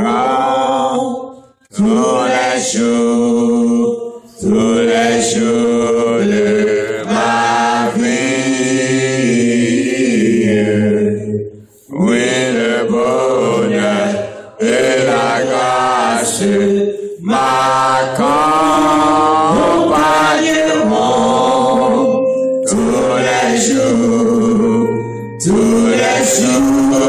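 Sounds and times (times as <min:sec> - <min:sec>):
man singing a hymn: 0:00.0 - 0:27.0.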